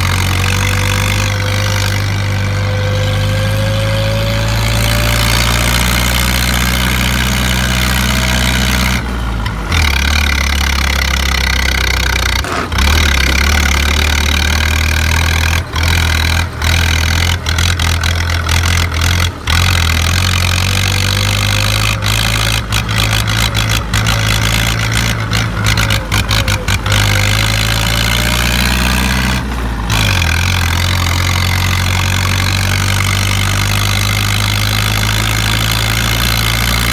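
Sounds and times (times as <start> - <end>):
tractor diesel engine droning: 0.0 - 36.9.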